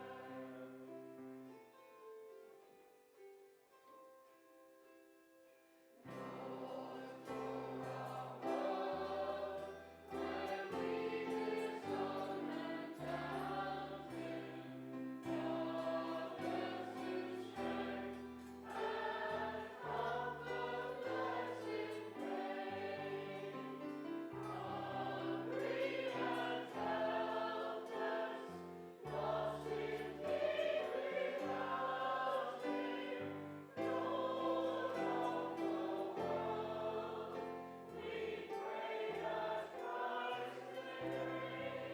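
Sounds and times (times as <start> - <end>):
choir singing a hymn: 0.0 - 1.4, 6.0 - 41.9.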